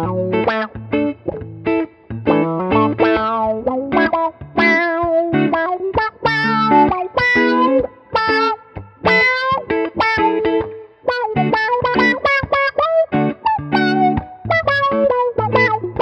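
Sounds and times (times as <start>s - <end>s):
electric guitars with auto-wah: 0.0s - 16.0s.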